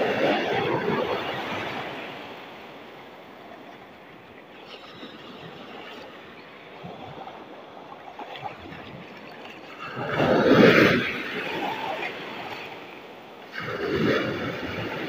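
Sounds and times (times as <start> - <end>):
sea waves breaking: 0.0 - 15.0.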